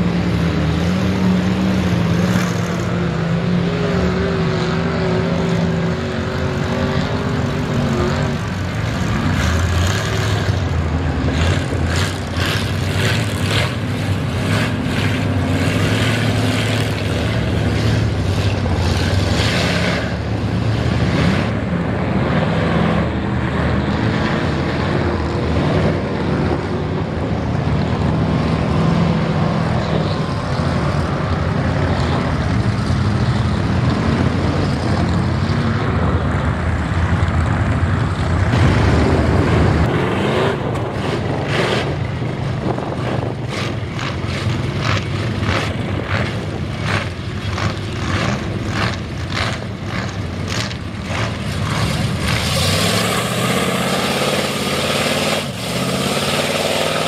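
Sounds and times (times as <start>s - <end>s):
truck engines running hard: 0.0s - 57.0s.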